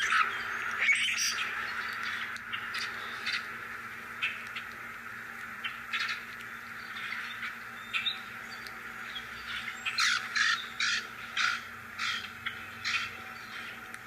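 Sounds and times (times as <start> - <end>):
bird harsh calls: 0.0 - 3.6, 5.6 - 13.8
steady high hiss: 0.0 - 14.0.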